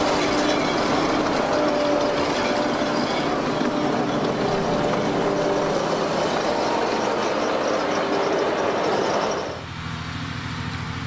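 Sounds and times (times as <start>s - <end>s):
potato harvester running: 0.0s - 9.7s
engine hum: 0.0s - 11.0s.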